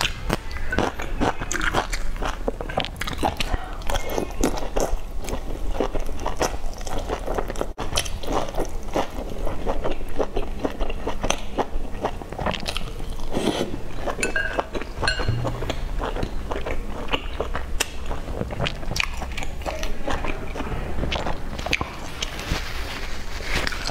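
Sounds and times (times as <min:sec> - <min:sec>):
person chewing food: 0:00.0 - 0:22.4.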